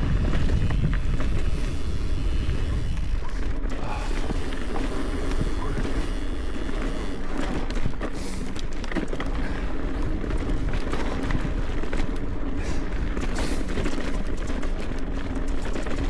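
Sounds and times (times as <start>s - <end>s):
bike rattling over bumps: 0.0s - 16.0s
wind and tyres on loose ground: 0.0s - 16.0s.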